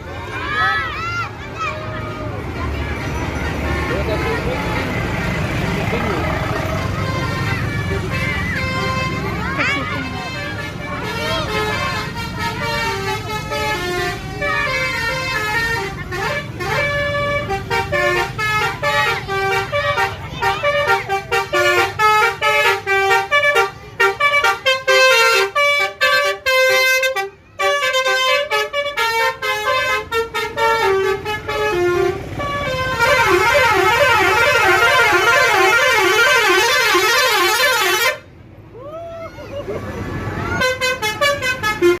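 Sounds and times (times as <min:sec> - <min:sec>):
musical bus air horn: 0:06.3 - 0:38.4, 0:40.3 - 0:42.0.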